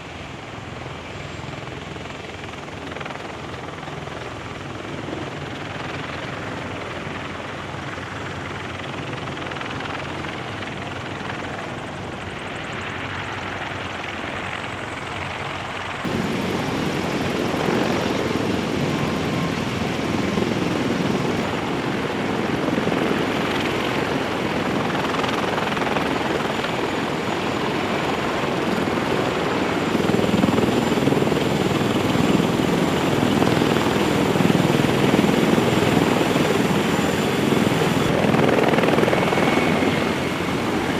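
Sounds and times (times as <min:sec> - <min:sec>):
rotor and turbine engine noise: 0:00.0 - 0:40.9.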